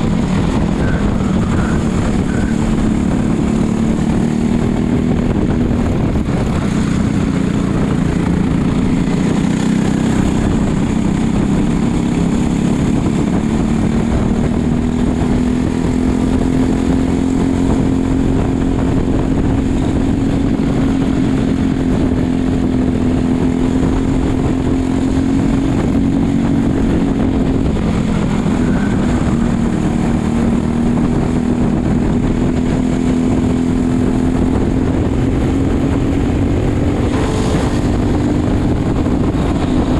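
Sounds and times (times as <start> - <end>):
kart engine at high revs: 0.0 - 39.9.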